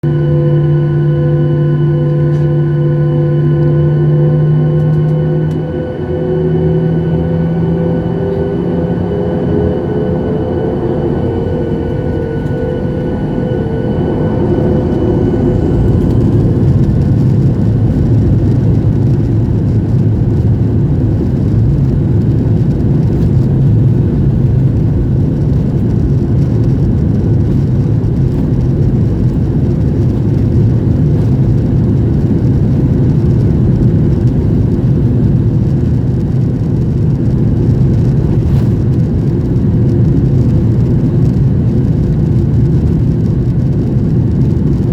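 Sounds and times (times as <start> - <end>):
jet engine roar: 0.0 - 44.9
jet engine whine: 0.0 - 44.9.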